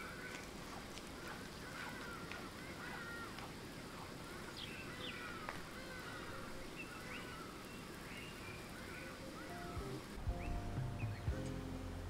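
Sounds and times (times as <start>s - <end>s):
birds chirping and calling: 0.0s - 11.7s
low background noise: 0.0s - 12.0s.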